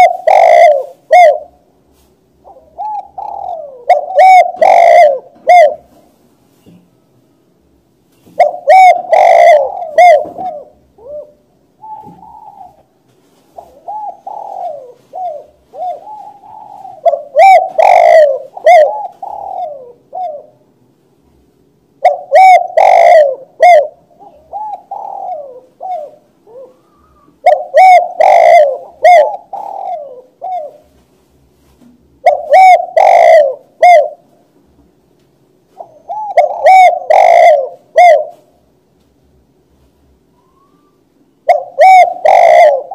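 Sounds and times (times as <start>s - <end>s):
dove cooing: 0.0s - 1.7s, 2.4s - 6.8s, 8.2s - 20.6s, 22.0s - 31.0s, 32.2s - 34.4s, 35.7s - 38.7s, 40.3s - 42.9s.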